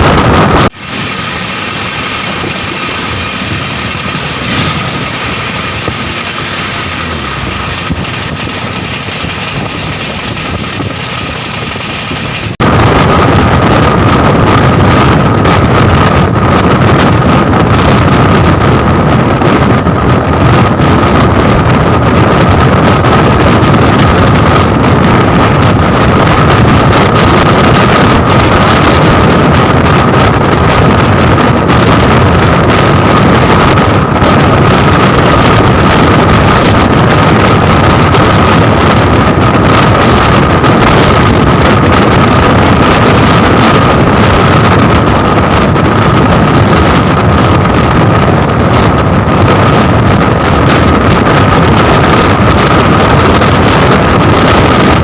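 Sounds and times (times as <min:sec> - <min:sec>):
high whine: 0:00.0 - 0:55.0
train wheels rushing on track: 0:00.0 - 0:55.0
wind buffeting microphone: 0:00.0 - 0:55.0.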